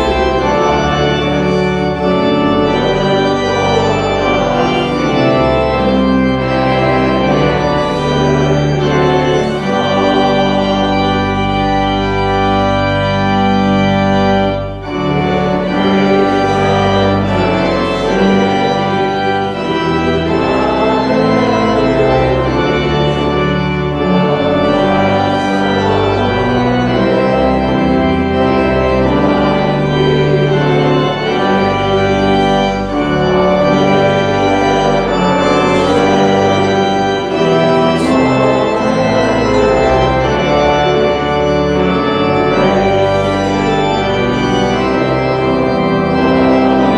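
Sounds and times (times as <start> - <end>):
church organ chords: 0.0 - 46.9.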